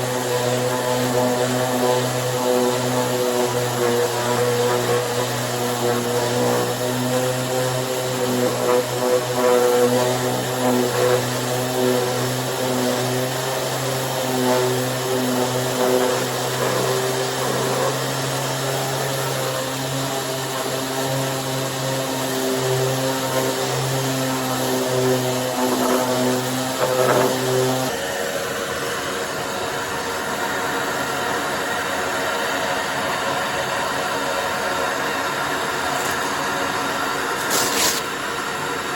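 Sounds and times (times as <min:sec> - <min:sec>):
orbital sander running: 0:00.0 - 0:38.9.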